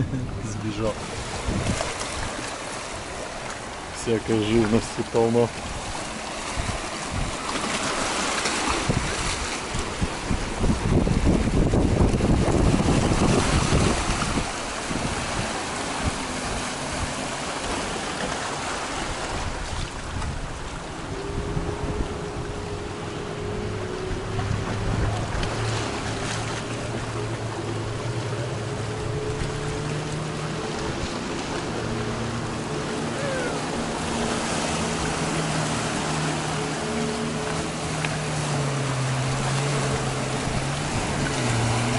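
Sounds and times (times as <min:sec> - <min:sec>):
boat engine humming: 0:00.0 - 0:41.9
waves washing among rocks: 0:00.0 - 0:41.9
wind buffeting microphone: 0:00.0 - 0:41.9.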